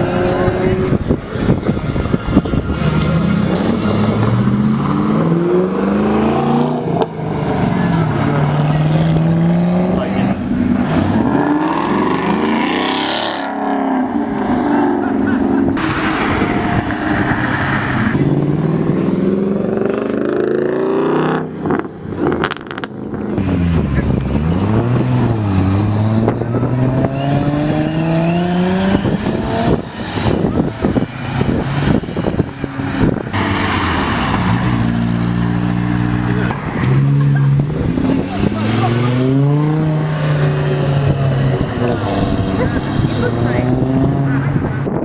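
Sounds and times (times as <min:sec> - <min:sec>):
car engines accelerating: 0:00.0 - 0:45.0.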